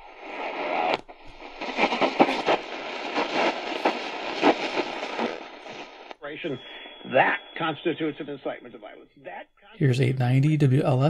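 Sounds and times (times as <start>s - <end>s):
radio static hiss with crackles: 0.0s - 9.5s.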